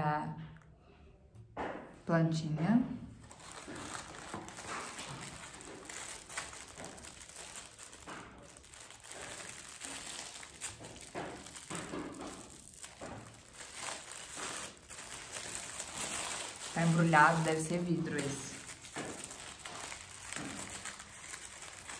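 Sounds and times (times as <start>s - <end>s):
gift wrapping crinkling: 3.2s - 21.9s.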